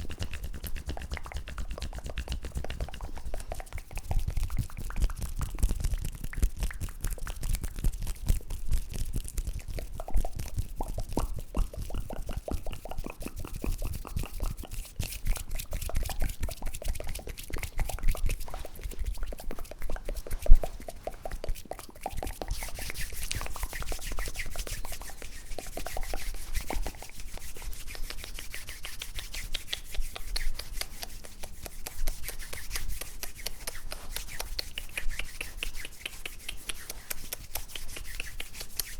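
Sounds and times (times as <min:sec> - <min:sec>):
wet mouth clicks and pops: 0:00.0 - 0:38.9.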